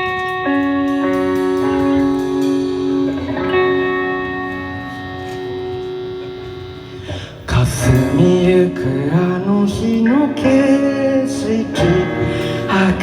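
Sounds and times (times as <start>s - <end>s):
guitar chords ringing: 0.0s - 13.0s.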